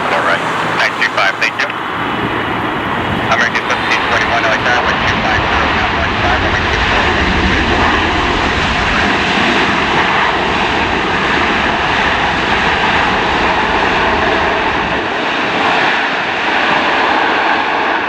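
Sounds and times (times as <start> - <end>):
jet engine noise: 0.0 - 18.0.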